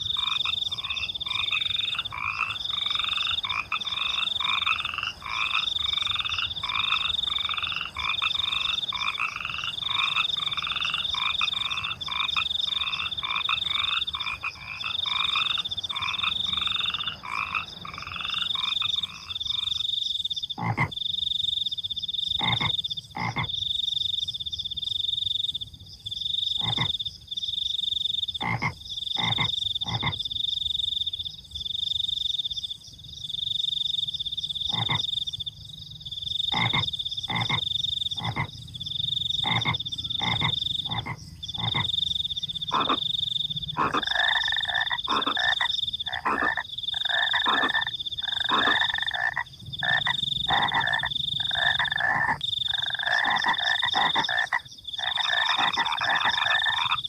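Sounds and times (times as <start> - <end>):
cricket trilling: 0.0 - 57.0
frogs croaking: 0.0 - 57.0.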